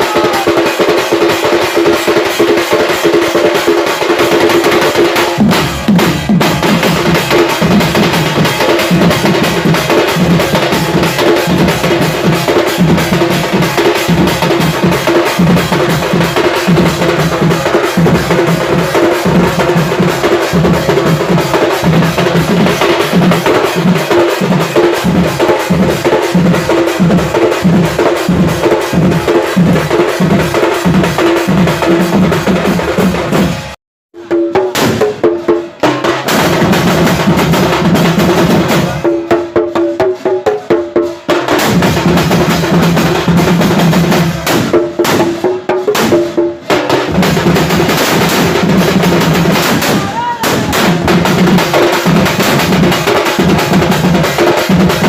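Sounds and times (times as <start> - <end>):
drums beaten with sticks: 0.0 - 55.0.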